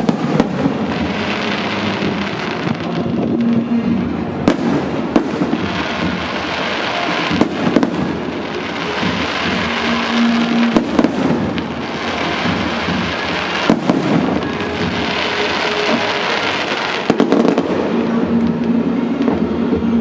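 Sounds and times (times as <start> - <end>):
firework bangs: 0.0 - 20.0
fireworks crackling: 0.0 - 20.0.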